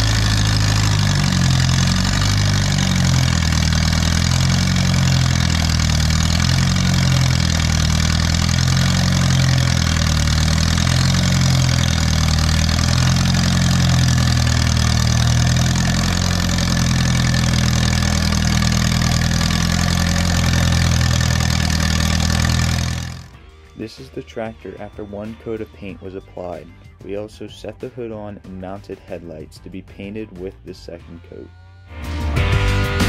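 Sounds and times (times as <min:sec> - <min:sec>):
tractor engine running: 0:00.0 - 0:28.1.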